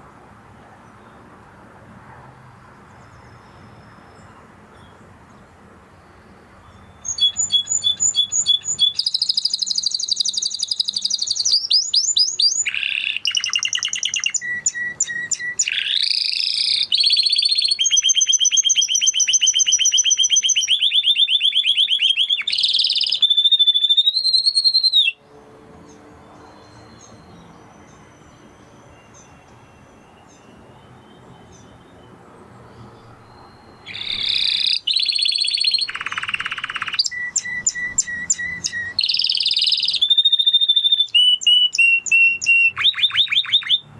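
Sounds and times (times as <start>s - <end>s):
canary singing trills: 6.2s - 25.2s, 25.9s - 43.9s.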